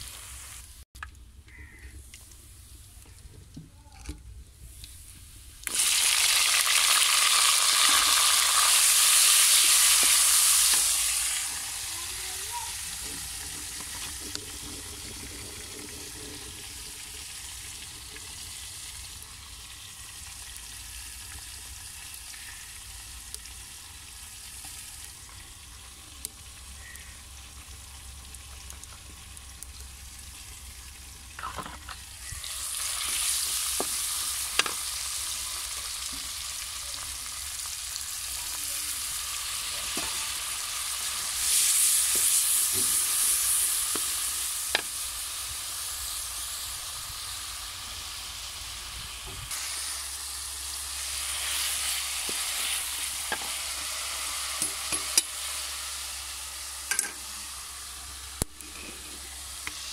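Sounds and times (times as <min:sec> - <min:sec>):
vegetables sizzling in oil: 0:00.0 - 0:00.8, 0:05.6 - 0:59.9.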